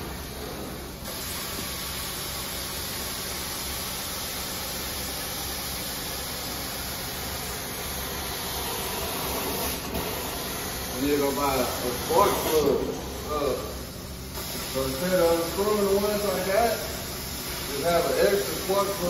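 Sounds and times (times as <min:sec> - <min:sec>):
extraction wand hissing: 0:00.0 - 0:19.0
low machine hum: 0:00.0 - 0:19.0.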